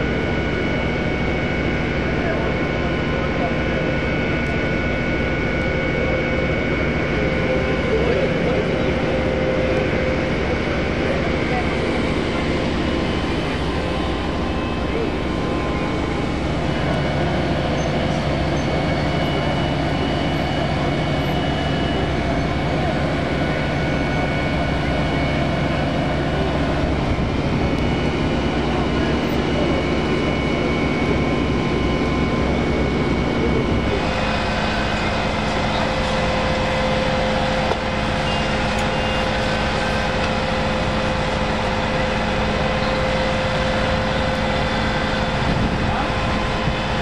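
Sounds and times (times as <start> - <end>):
diesel engines droning: 0.0 - 47.0.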